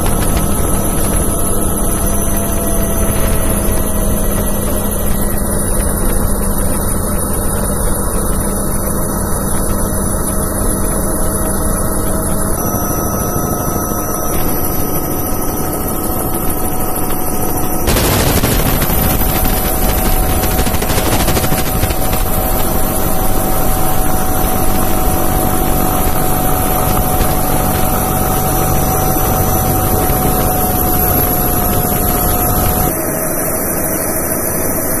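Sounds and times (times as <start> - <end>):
helicopter turbine whine: 0.0 - 35.0.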